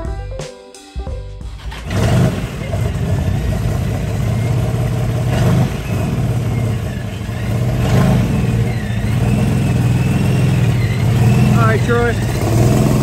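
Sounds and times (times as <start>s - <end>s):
car engine rumbling: 1.4s - 13.0s.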